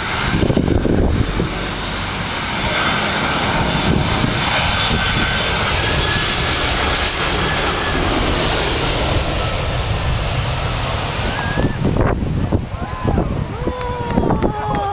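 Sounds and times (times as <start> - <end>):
jet engines running loud: 0.0 - 14.9.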